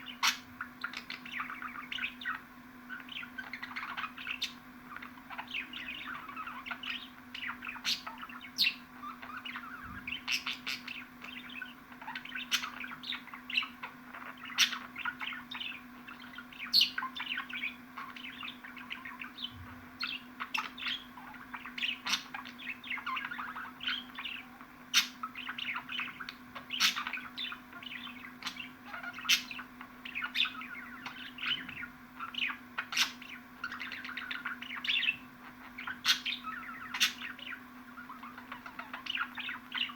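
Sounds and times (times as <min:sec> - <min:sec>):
budgerigar warbling chatter: 0:00.0 - 0:39.9
low steady hum: 0:00.0 - 0:39.9.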